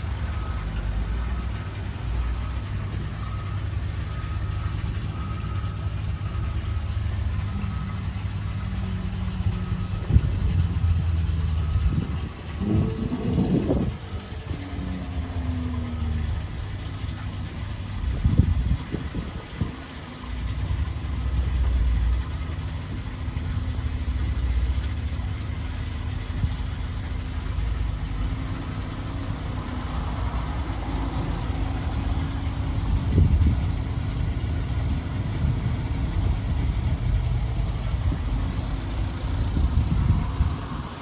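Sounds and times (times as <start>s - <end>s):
engine idling: 0.0s - 41.0s.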